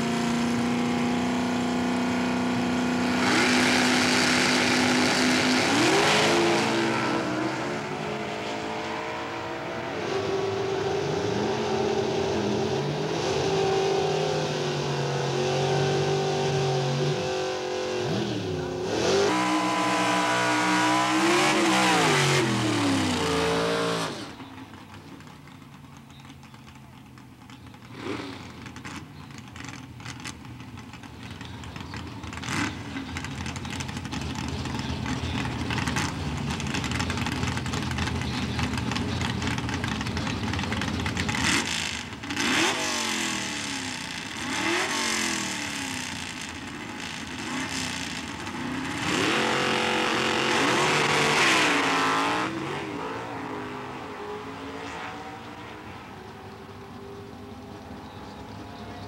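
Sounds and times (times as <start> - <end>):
drag car engine revving: 0.0 - 24.5, 27.8 - 59.0.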